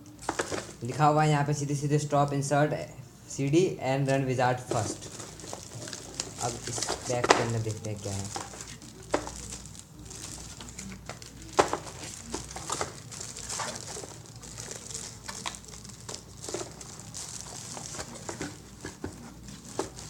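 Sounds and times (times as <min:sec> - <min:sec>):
plastic bag crinkling: 0:00.1 - 0:00.9, 0:04.2 - 0:20.0.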